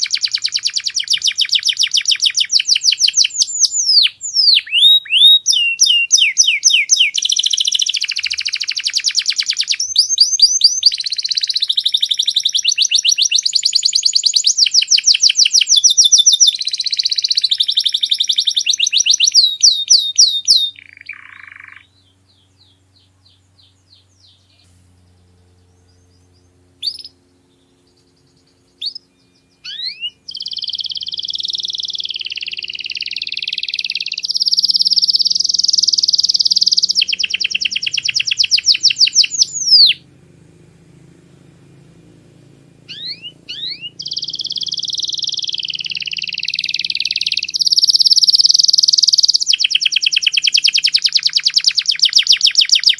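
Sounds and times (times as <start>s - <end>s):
canary singing: 0.0s - 52.9s.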